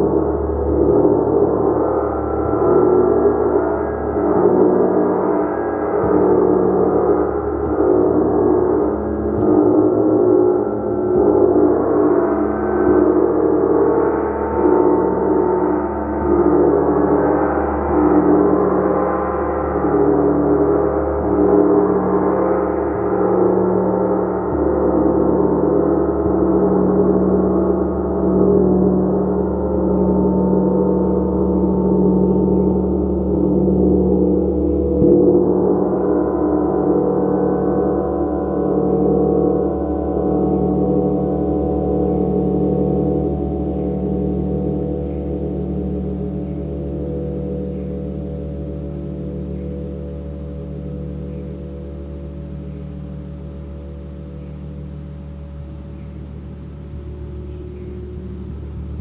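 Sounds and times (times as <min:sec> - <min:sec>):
gong tones: 0:00.0 - 0:59.0.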